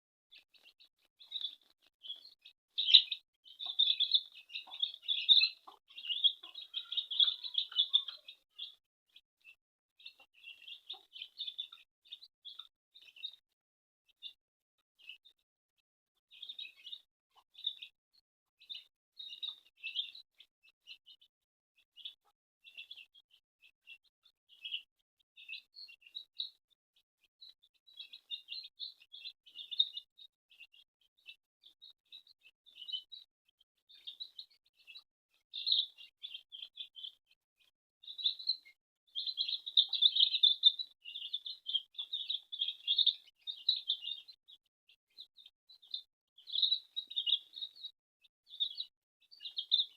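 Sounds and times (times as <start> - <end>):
baby chicks peeping: 0.3 - 13.5, 14.1 - 14.4, 15.0 - 15.4, 16.2 - 18.0, 18.6 - 49.9.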